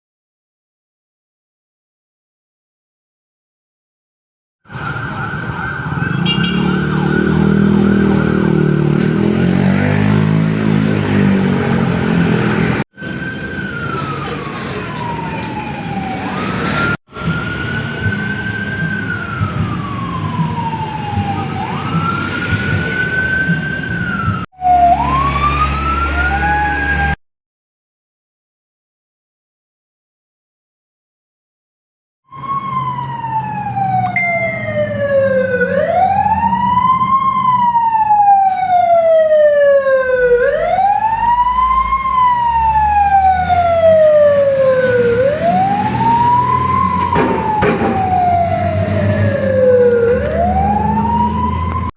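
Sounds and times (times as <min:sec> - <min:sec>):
fire truck sirens: 0:04.6 - 0:27.2, 0:32.3 - 0:51.9.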